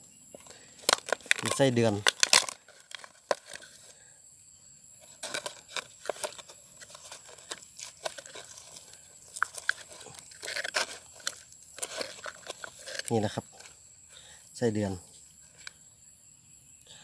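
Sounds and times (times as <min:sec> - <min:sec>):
hands rustling and crinkling gear: 0:00.4 - 0:04.0, 0:05.0 - 0:15.8.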